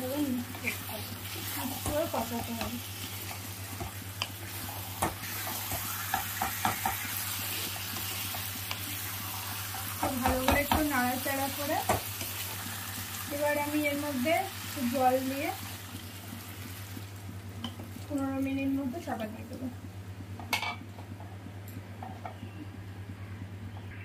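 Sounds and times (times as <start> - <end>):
chicken sizzling in a pan: 0.0 - 19.2.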